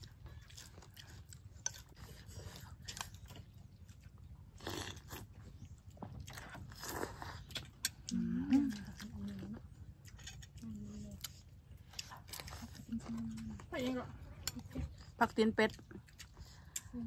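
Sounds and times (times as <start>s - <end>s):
low steady hum: 0.0s - 17.0s
person chewing and crunching: 0.0s - 17.0s.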